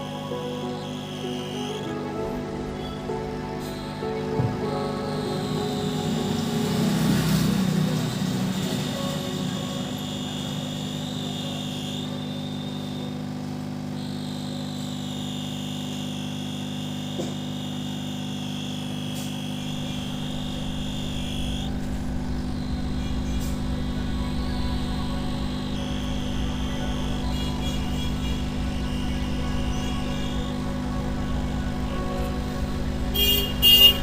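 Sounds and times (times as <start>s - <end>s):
hot air station fan whine: 0.0s - 34.0s.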